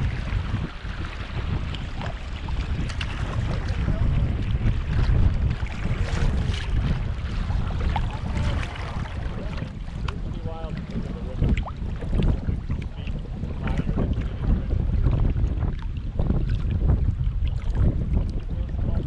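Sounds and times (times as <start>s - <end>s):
river water splashing against hull: 0.0s - 19.0s
wind buffeting microphone: 0.0s - 19.0s.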